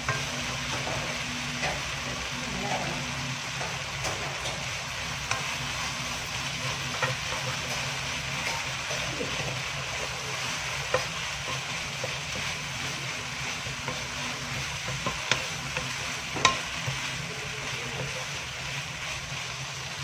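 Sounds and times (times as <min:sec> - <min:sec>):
vegetables sizzling in a wok: 0:00.0 - 0:20.0
wooden spatula scraping a pan: 0:00.0 - 0:20.0.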